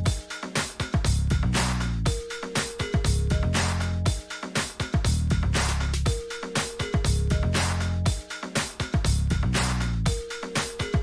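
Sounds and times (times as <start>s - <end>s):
electronic dance music with bass: 0.0s - 11.0s.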